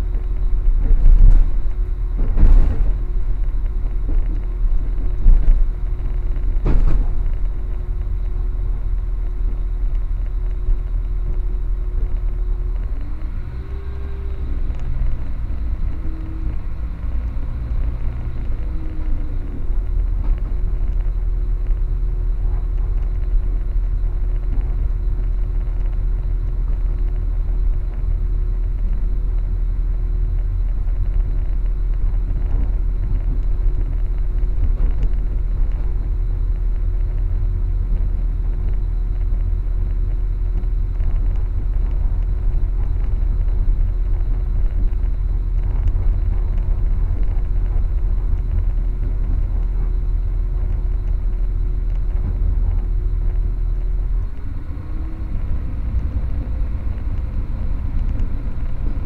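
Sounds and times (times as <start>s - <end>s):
constant hum: 0.0s - 59.0s
train wheels rumbling on track: 0.0s - 59.0s.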